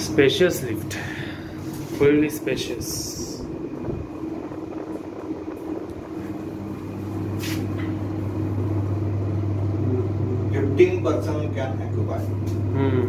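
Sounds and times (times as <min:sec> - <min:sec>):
deep drone: 0:00.0 - 0:13.0
lift cabin hum: 0:00.0 - 0:13.0.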